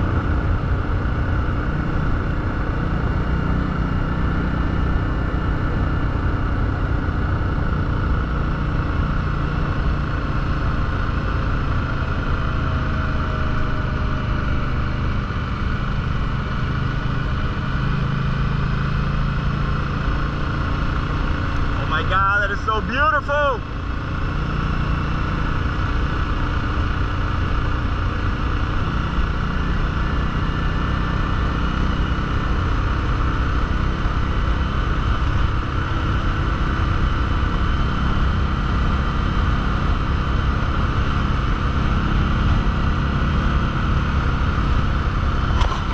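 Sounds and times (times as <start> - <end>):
motorcycle engine running: 0.0 - 45.9
road noise: 0.0 - 45.9
wind: 0.0 - 45.9.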